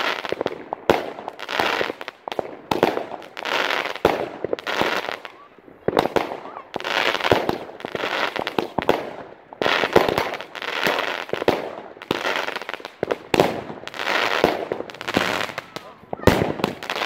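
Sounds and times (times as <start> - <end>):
firework bangs: 0.0 - 17.0
firework crackling: 0.0 - 17.0.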